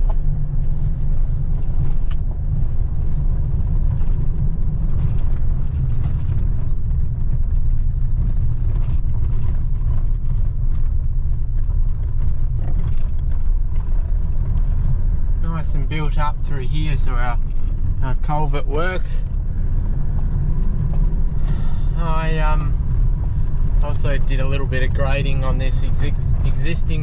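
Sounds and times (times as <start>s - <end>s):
vehicle driving rumble: 0.0s - 27.0s.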